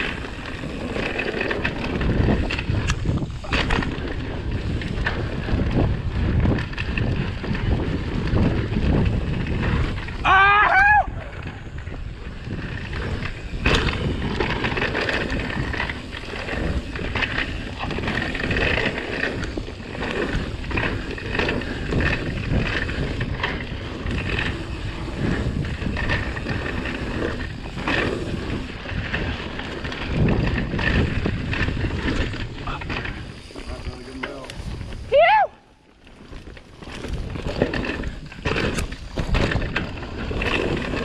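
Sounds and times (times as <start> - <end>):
bike rattling and knocking: 0.0 - 41.0
tyre noise on dirt: 0.0 - 41.0
wind buffeting microphone: 0.0 - 41.0.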